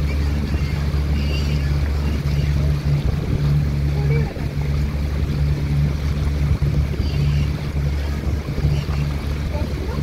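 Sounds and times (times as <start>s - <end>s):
motorboat engine humming: 0.0s - 10.0s
water splashing along hull: 0.0s - 10.0s.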